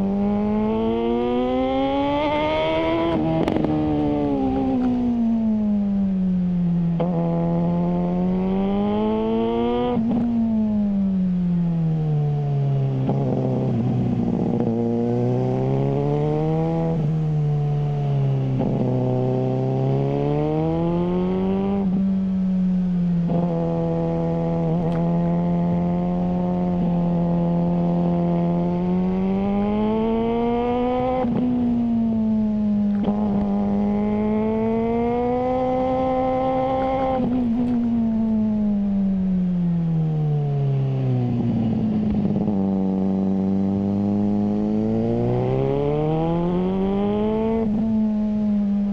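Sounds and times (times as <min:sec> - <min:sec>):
motorcycle engine revving: 0:00.0 - 0:06.0, 0:06.7 - 0:11.0, 0:12.3 - 0:48.9.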